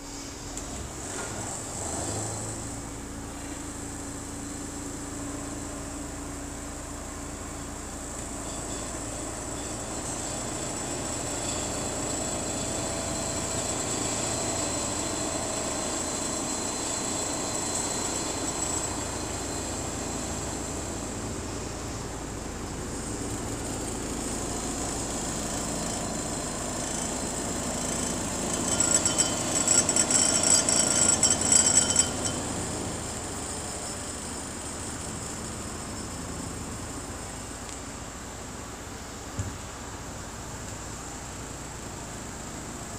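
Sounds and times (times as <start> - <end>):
vibratory roller drone: 1.6 - 37.0.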